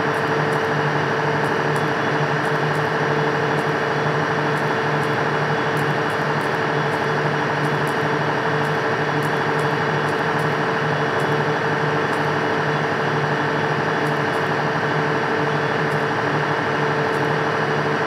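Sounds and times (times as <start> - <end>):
machine-like droning hum: 0.0 - 18.0.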